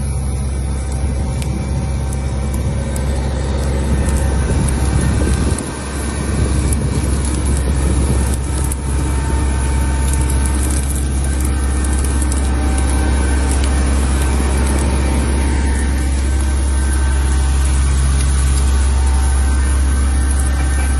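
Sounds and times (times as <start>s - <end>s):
heavy vehicle engine droning: 0.0s - 20.9s.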